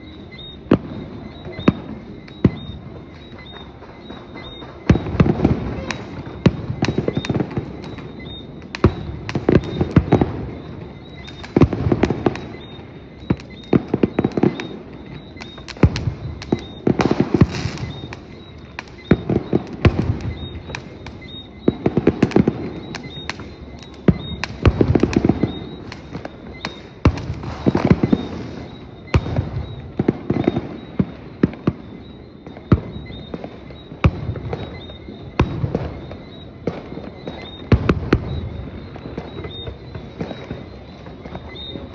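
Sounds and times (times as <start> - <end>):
fireworks bangs: 0.0 - 41.9
fireworks crackling: 0.0 - 41.9.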